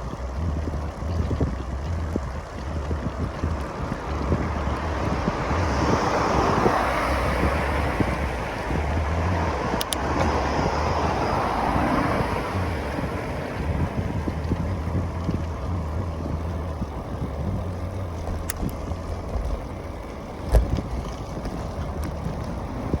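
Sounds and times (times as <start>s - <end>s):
bicycle rolling noise: 0.0s - 23.0s
scattered clicks: 0.0s - 23.0s
wind buffeting microphone: 0.0s - 23.0s.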